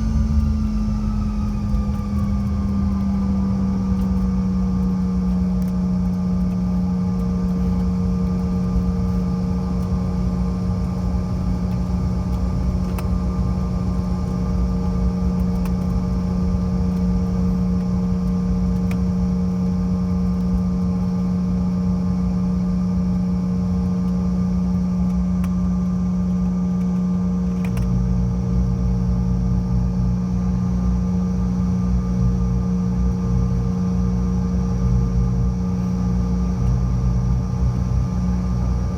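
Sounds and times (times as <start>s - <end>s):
airliner cabin engine drone: 0.0s - 38.9s
lower hum: 0.0s - 38.9s.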